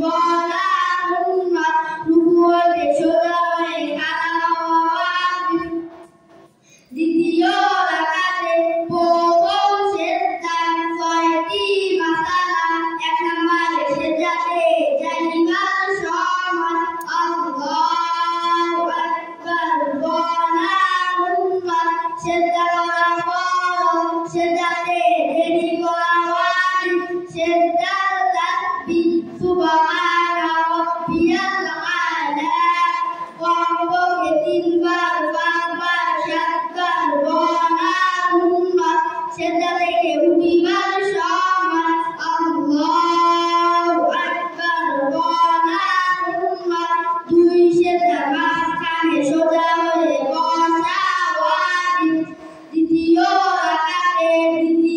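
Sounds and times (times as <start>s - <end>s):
boys singing into microphones: 0.0s - 54.9s.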